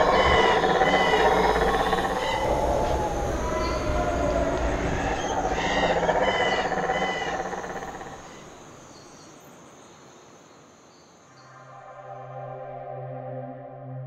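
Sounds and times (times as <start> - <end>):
frogs and insects calling: 0.0 - 11.7.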